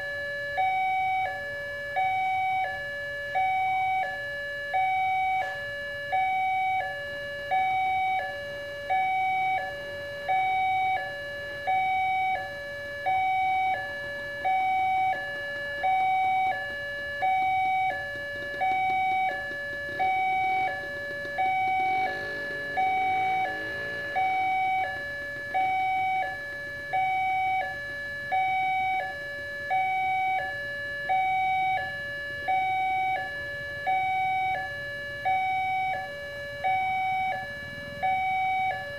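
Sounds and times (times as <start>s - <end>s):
two-tone electronic crossing chime: 0.0s - 38.9s.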